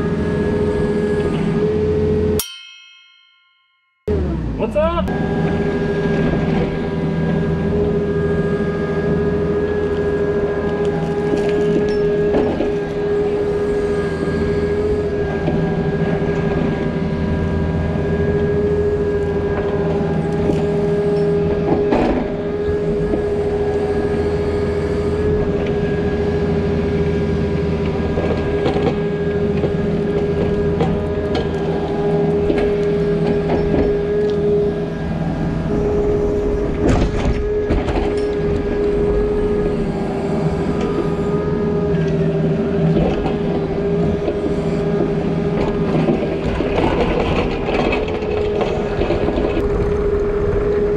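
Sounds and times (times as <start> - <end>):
diesel engine drone: 0.0 - 2.4, 4.1 - 50.9
high whine: 2.4 - 46.6.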